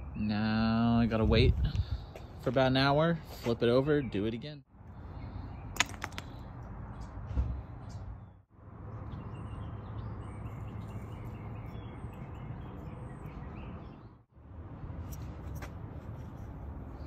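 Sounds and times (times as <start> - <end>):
small birds chirping: 0.0 - 14.3.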